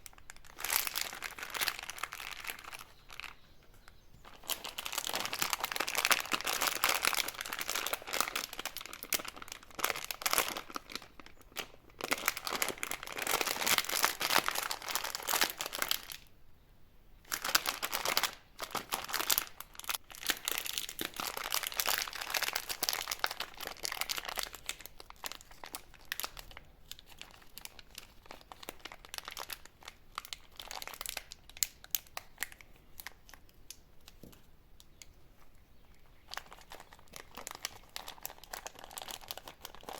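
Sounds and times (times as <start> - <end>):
plastic wrappers crinkling and tearing: 0.0 - 16.3, 17.3 - 39.9.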